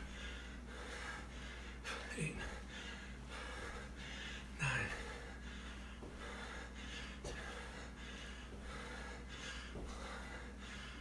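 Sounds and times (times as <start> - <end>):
man breathing hard: 0.0 - 11.0.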